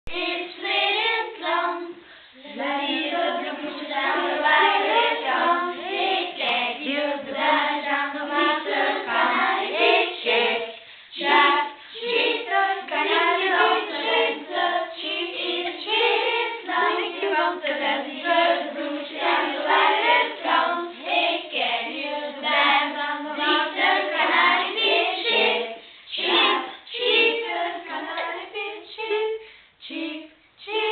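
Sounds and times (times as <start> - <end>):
children singing a round: 0.0 - 30.9.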